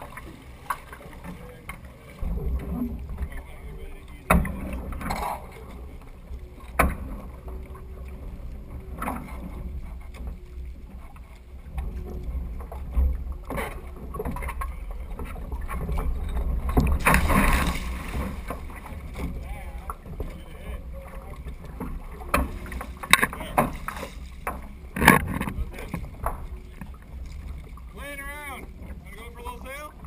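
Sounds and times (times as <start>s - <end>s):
water splashing against hull: 0.0s - 30.0s
wind rumbling on microphone: 2.2s - 30.0s.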